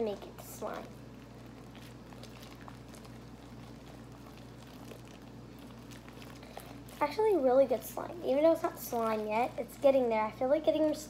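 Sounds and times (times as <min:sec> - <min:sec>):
steady low hum: 0:00.0 - 0:11.0
wet squishing slime kneaded by hand: 0:00.0 - 0:11.0.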